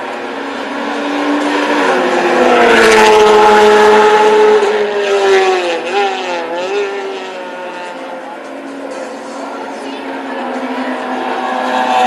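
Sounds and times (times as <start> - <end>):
racing engine passing at speed: 0.0 - 12.0.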